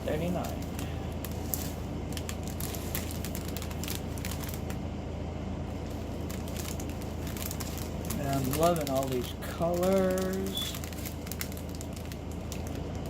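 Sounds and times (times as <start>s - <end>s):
plastic bags crinkling: 0.0s - 4.8s, 5.7s - 13.0s
steady low hum: 0.0s - 13.0s.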